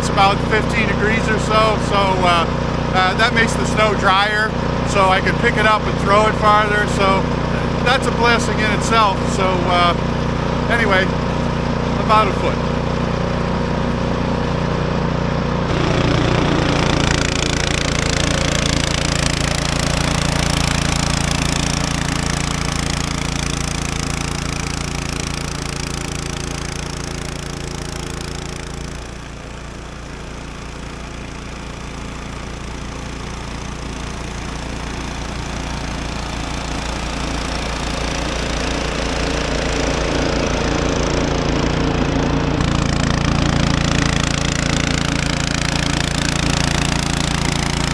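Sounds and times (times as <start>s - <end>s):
rush of snow being cleared: 0.0s - 47.9s
snow blower engine running: 0.0s - 47.9s.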